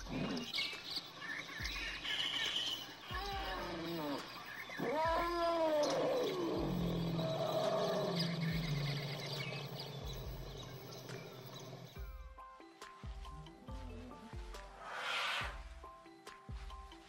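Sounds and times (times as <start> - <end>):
elephant calling: 0.0 - 11.9, 13.4 - 15.6.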